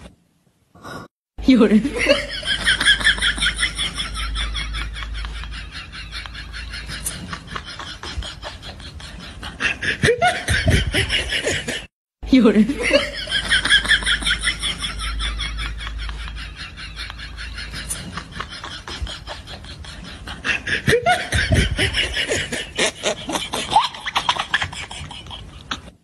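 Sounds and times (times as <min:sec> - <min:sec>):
laughter bursts: 0:01.9 - 0:11.9, 0:12.8 - 0:26.0.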